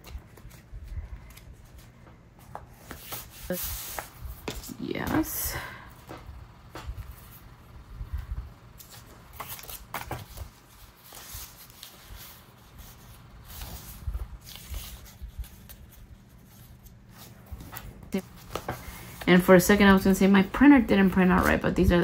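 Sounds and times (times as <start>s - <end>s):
paper rustling: 0.0s - 5.3s, 8.7s - 21.6s.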